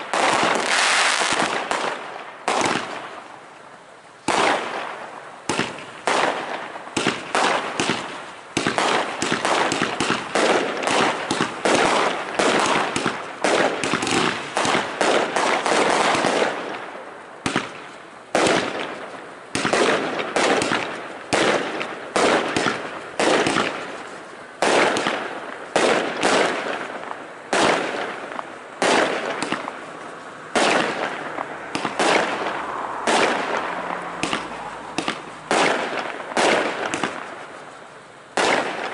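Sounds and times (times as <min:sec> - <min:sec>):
fireworks bursting with echoing bangs: 0:00.0 - 0:03.6, 0:04.2 - 0:38.9.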